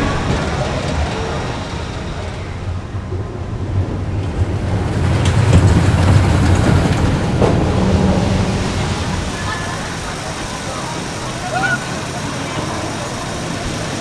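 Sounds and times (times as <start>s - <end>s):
roller coaster rumbling on track: 0.0s - 14.0s.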